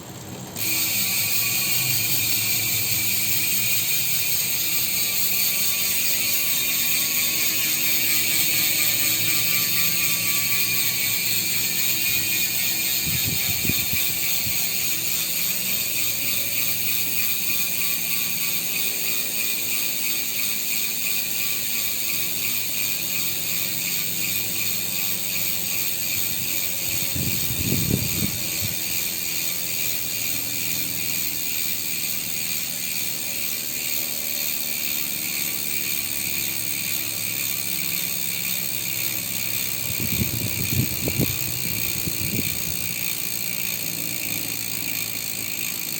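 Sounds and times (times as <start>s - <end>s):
bicycle hub ratcheting buzz: 0.0s - 45.9s.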